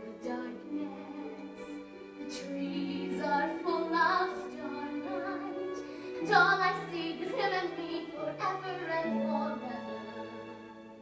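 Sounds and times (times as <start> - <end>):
woman singing: 0.0 - 10.2.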